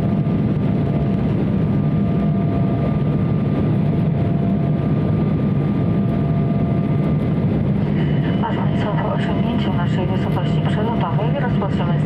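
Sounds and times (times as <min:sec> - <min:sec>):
aircraft cabin engine hum: 0:00.0 - 0:12.0.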